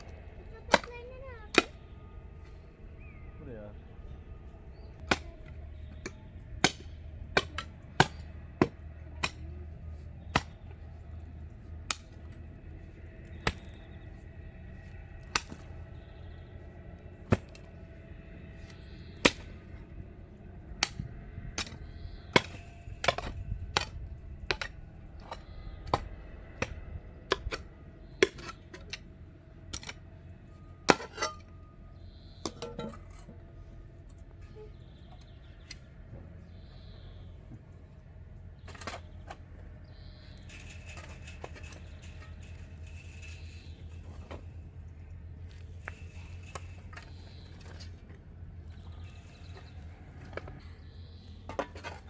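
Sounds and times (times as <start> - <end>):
faint music: 0.0 - 52.0.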